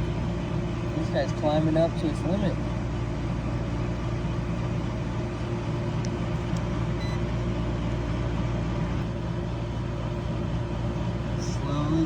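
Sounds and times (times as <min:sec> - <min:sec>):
heat pump compressor humming: 0:00.0 - 0:12.0.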